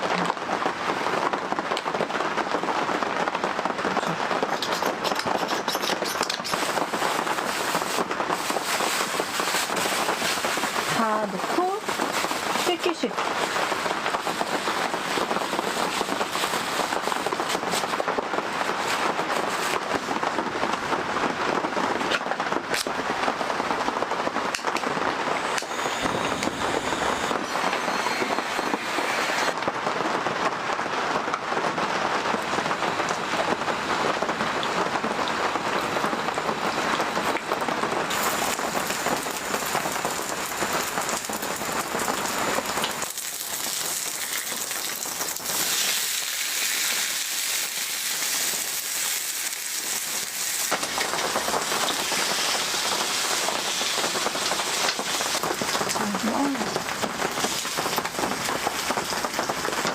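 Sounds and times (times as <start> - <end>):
heavy rain crackling patter: 0.0 - 59.9.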